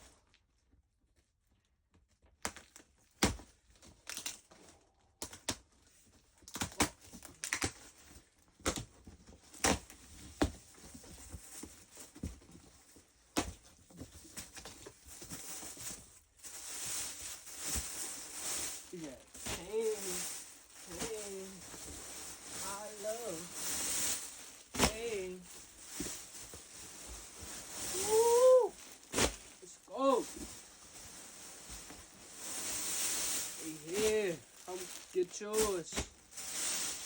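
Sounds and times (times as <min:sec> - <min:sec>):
packaging crinkling and tearing: 0:02.4 - 0:10.5, 0:14.2 - 0:37.0.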